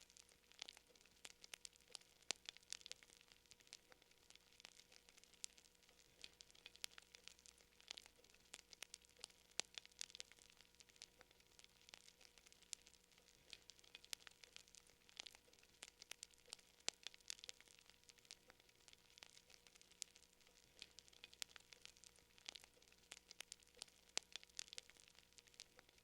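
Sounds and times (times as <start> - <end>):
faint steady hum: 0.0 - 26.0
wood fire crackling: 0.0 - 26.0.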